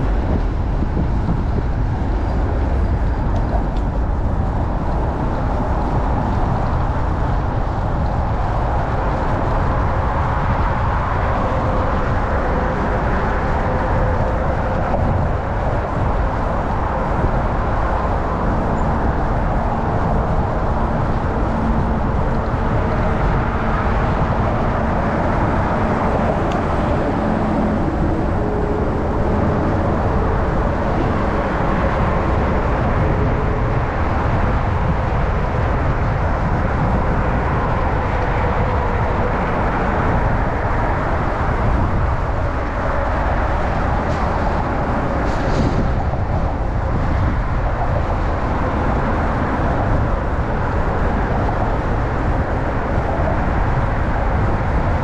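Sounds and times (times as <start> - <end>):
city traffic: 0.0 - 55.0
wind rushing over microphone: 0.0 - 55.0.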